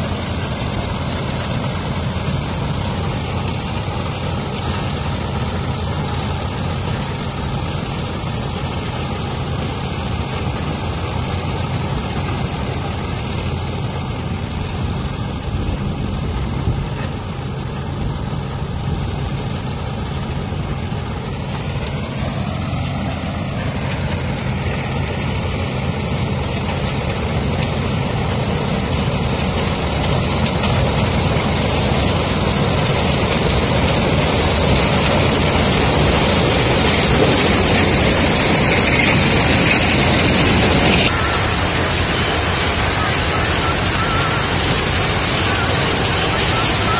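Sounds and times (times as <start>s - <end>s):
harvester machinery noise: 0.0s - 46.9s
tractor diesel engine running: 0.0s - 46.9s.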